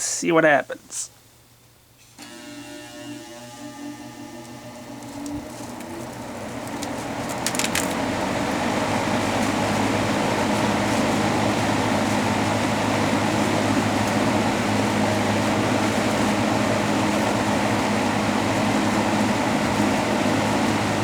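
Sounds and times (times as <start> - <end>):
box fan running: 1.5 - 21.0.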